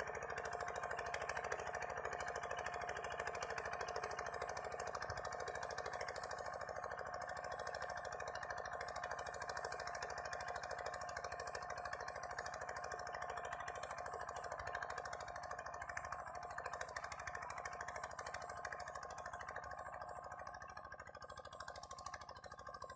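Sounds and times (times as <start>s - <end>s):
diesel engine knocking: 0.0s - 22.9s.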